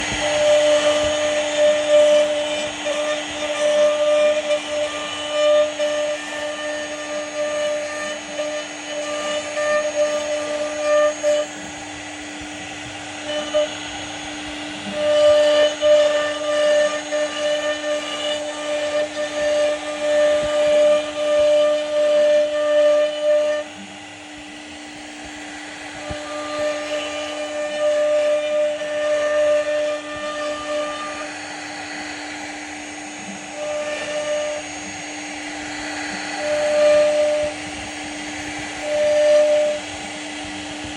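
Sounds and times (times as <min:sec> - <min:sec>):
bit carving wood: 0:00.0 - 0:23.8, 0:25.4 - 0:40.9
router spindle whining: 0:00.0 - 0:40.9.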